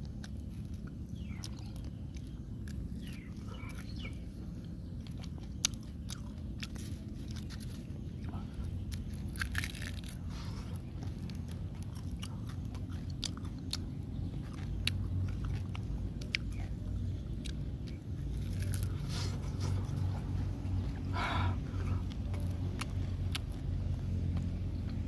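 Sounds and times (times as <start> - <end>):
chewing and crunching food: 0.0 - 25.0
steady low hum: 0.0 - 25.0.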